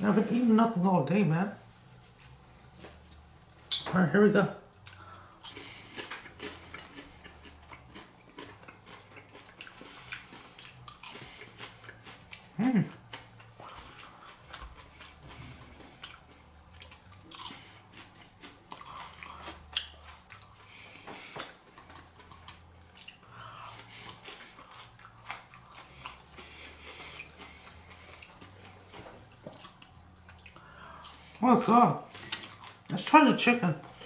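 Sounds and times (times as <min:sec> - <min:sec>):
chewing and biting food: 0:04.8 - 0:33.1.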